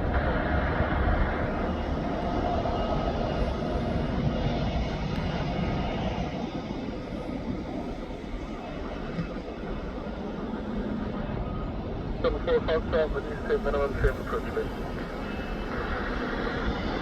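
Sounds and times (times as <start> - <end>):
light aircraft engines running: 0.0 - 17.0.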